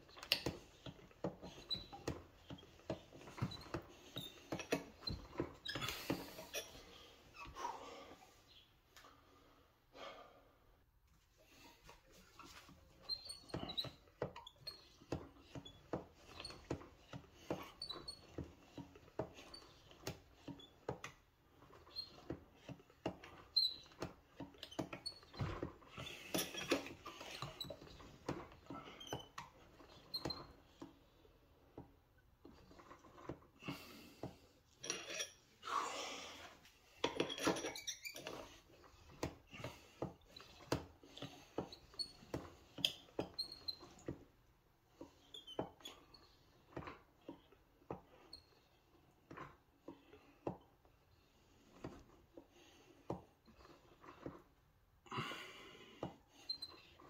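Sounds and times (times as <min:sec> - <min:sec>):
piston clicking and squeaking: 0:00.0 - 0:07.6, 0:11.5 - 0:35.5, 0:36.9 - 0:44.3, 0:44.9 - 0:52.4, 0:56.0 - 0:57.0.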